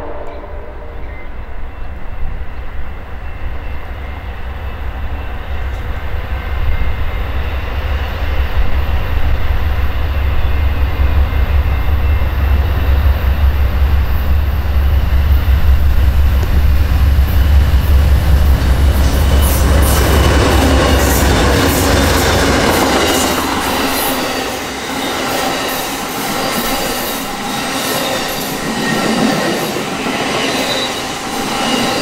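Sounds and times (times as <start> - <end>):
diesel locomotive and train approaching: 0.0 - 32.0.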